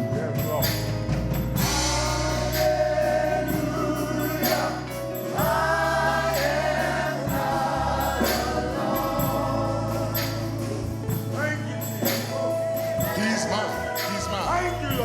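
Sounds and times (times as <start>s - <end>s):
bass: 0.0s - 15.0s
organ: 0.0s - 15.0s
choir and congregation singing: 1.3s - 15.0s.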